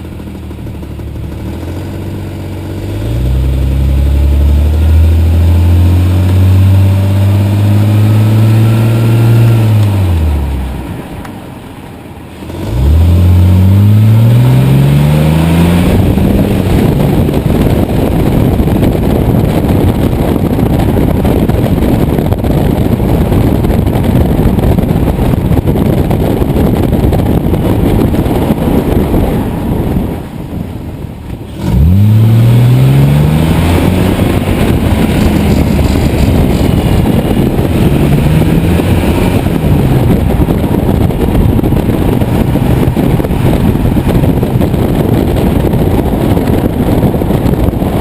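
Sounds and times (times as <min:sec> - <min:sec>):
car engine revving: 0:00.0 - 0:48.0
dense rattling noise: 0:00.0 - 0:48.0.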